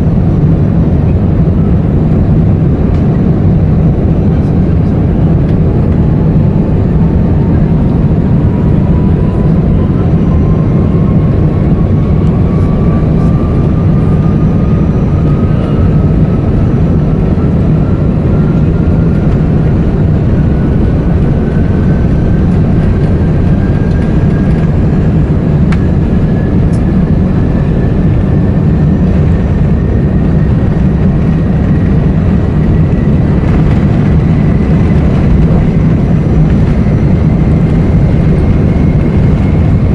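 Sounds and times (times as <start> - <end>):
aircraft engine and airflow rumble: 0.0 - 39.9.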